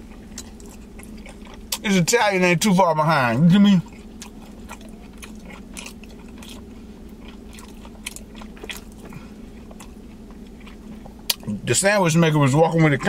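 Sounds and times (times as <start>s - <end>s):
person chewing: 0.0s - 11.6s
steady low hum: 0.0s - 13.0s.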